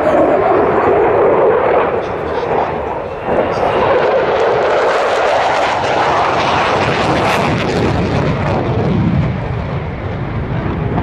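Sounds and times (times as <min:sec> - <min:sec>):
fighter jet roaring past: 0:00.0 - 0:11.0.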